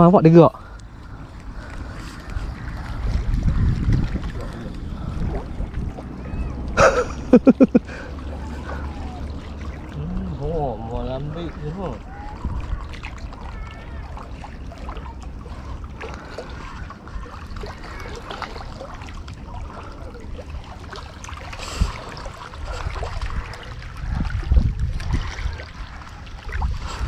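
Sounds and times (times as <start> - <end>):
small waves lapping on rocks: 0.1 - 27.0
wind rumbling on microphone: 0.6 - 27.0.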